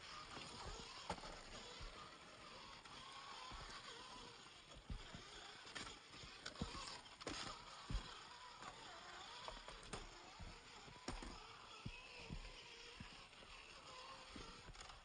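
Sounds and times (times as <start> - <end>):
tyres knocking and scraping on rocks: 0.1 - 12.4.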